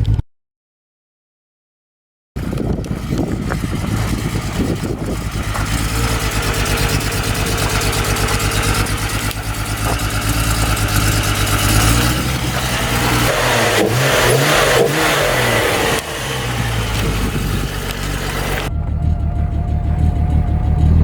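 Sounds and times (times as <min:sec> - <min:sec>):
car engine idling with misfire: 0:02.4 - 0:21.0.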